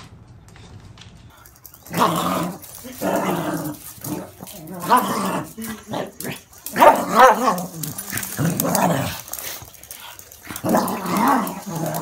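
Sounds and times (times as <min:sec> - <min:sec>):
small dog growling: 0:01.8 - 0:12.0.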